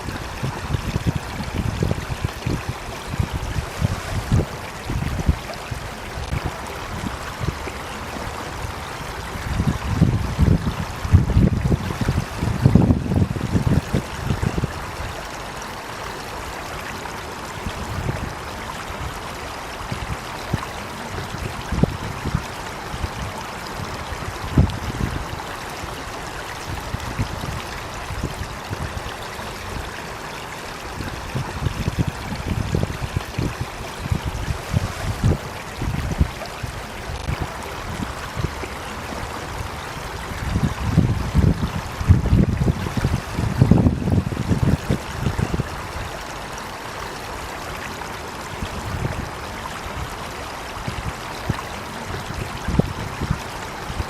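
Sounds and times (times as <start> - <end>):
running water flowing: 0.0 - 54.0.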